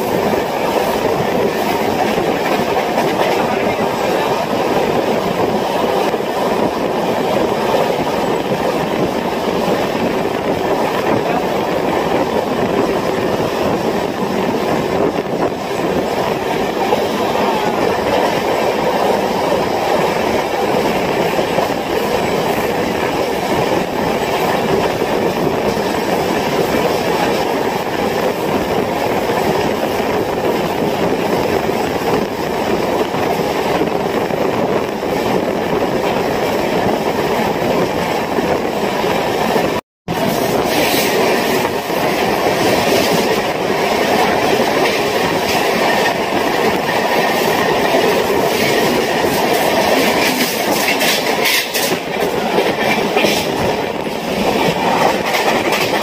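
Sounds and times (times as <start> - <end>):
passing train clattering: 0.0 - 56.0
train wheels clickety-clack: 0.0 - 56.0.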